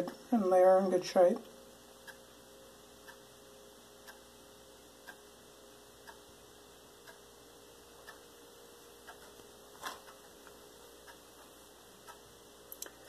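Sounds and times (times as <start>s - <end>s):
faint ticking: 0.0s - 0.4s, 1.0s - 13.0s
low steady hum: 0.0s - 13.0s.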